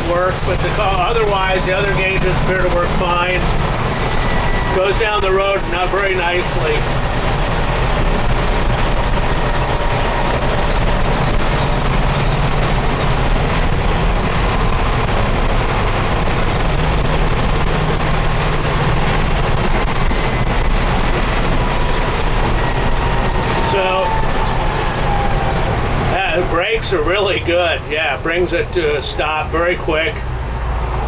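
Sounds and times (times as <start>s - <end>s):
engine running steadily: 0.0s - 31.0s
road noise: 0.0s - 31.0s.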